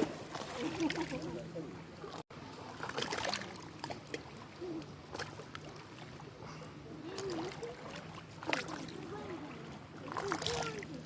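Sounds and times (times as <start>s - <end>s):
faint distant voices: 0.0s - 11.0s
lake waves lapping at shore: 0.0s - 11.0s.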